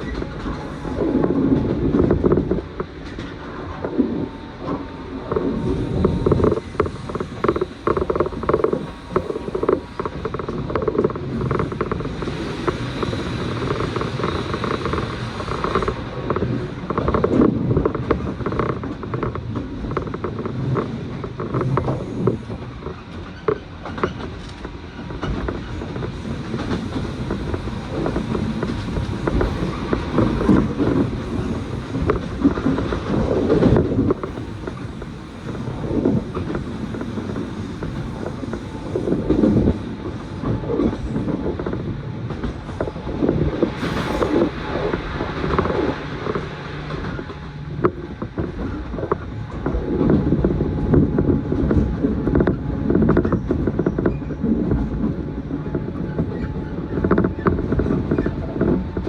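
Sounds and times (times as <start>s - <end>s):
train car clicks and creaks: 0.0s - 59.0s
train wheels rumbling on rail: 0.0s - 59.0s.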